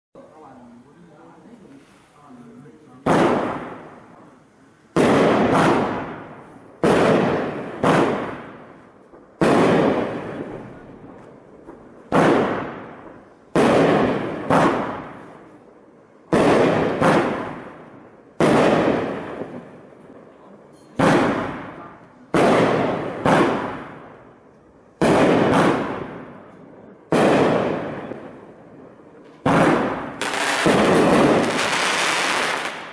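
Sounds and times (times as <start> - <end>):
fireworks bangs echoing: 2.9 - 32.9.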